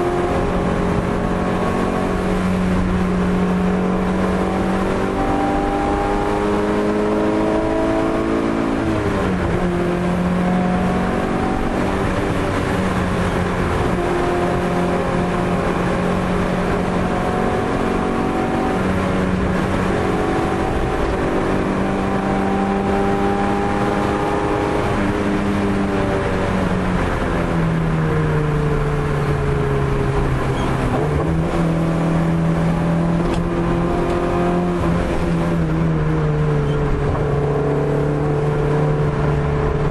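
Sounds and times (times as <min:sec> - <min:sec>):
car engine accelerating through gears: 0:00.0 - 0:39.9
road and wind noise: 0:00.0 - 0:39.9.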